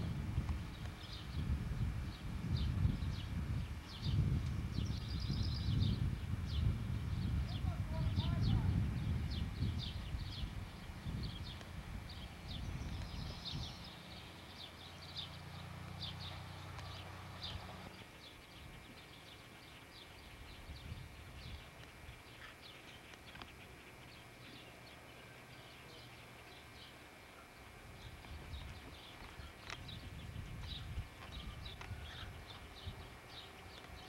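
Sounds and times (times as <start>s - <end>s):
small birds chirping: 0.3s - 34.0s.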